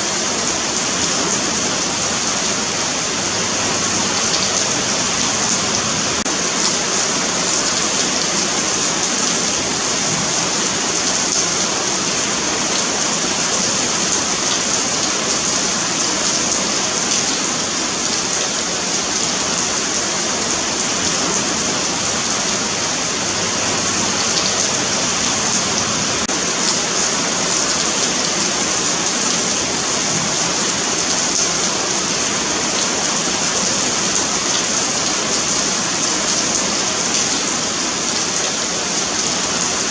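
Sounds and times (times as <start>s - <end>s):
rain on pavement: 0.0s - 39.9s.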